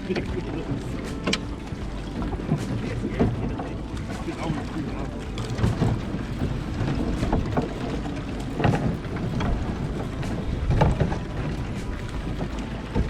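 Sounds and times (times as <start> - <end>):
water lapping against boat hull: 0.0 - 13.0
wind buffeting microphone: 0.0 - 13.0.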